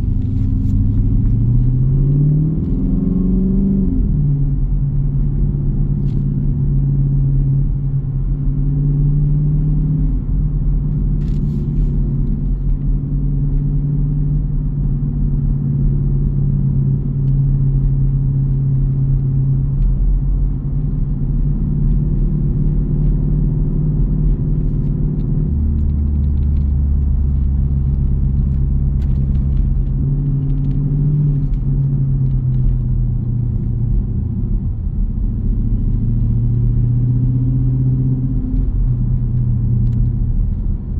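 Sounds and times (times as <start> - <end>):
car exhaust rumbling: 0.0 - 40.9.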